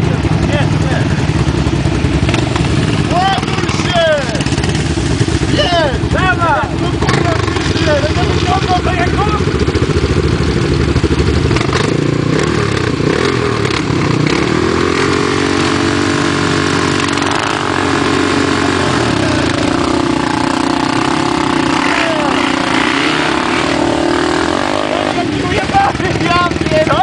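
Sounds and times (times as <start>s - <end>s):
quad engines revving: 0.0s - 27.0s.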